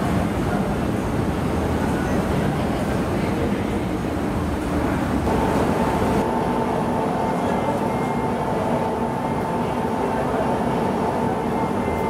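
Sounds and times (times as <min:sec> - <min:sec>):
metro train rumble: 0:00.0 - 0:12.0
train whine: 0:00.0 - 0:12.0.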